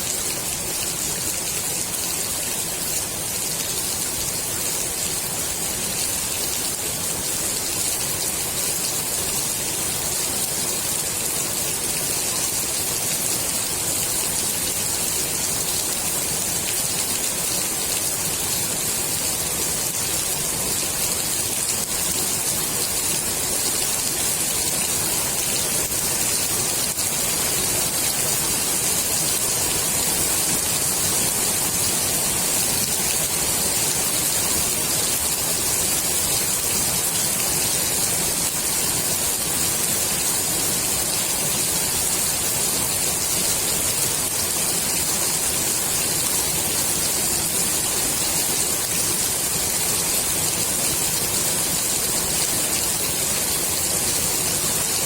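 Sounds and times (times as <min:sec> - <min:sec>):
rain falling on pool water: 0:00.0 - 0:55.0.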